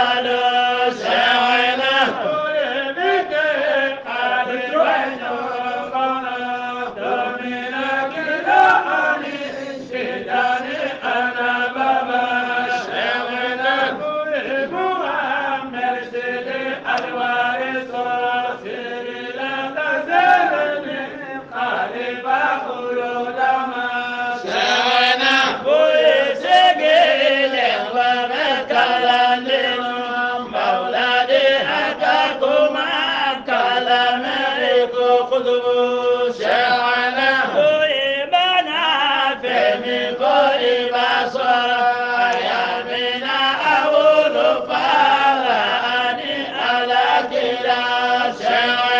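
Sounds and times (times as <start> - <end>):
voices chanting a devotional poem: 0.0 - 48.9.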